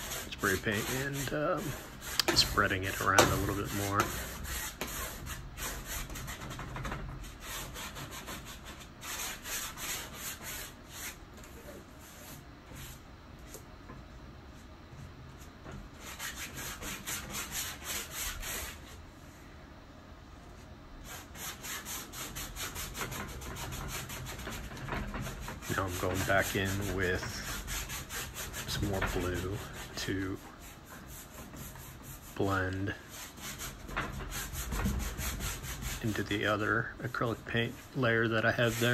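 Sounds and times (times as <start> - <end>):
painting tool scraping canvas: 0.0 - 13.6, 15.4 - 19.0, 21.0 - 38.9.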